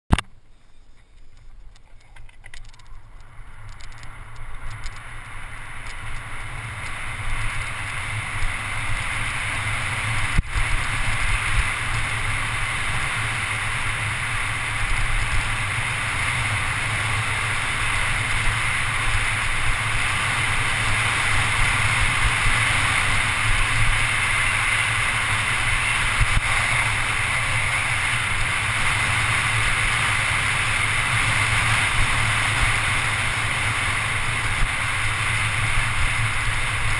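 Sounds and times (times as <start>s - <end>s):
tyres rumbling on asphalt: 0.1s - 36.9s
wind rushing over camera: 0.1s - 36.9s.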